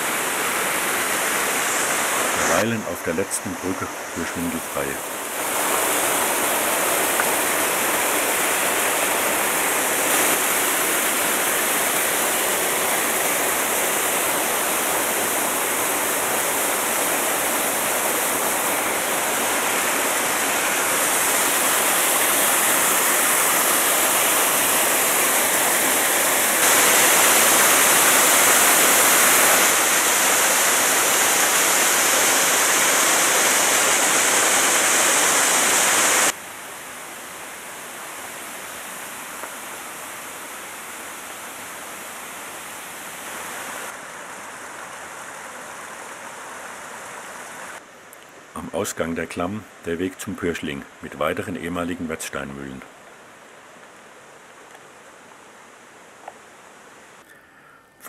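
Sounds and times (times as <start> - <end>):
waterfall roaring: 0.0 - 47.8.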